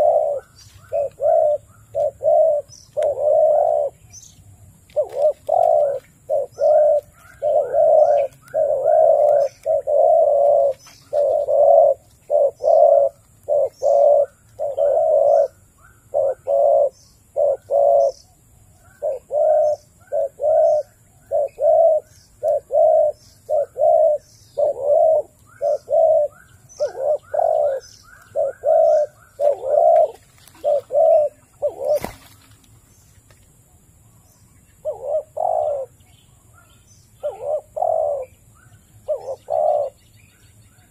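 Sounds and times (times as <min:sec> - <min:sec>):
dove cooing: 0:00.0 - 0:32.4, 0:34.8 - 0:36.0, 0:36.7 - 0:40.1.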